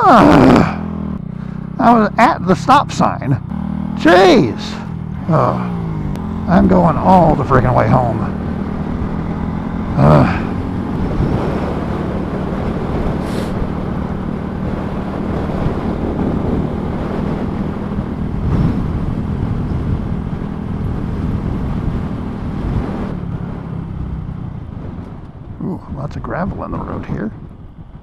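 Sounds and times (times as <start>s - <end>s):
motorcycle engine cruising: 0.0s - 28.0s
wind rushing over microphone: 0.0s - 28.0s.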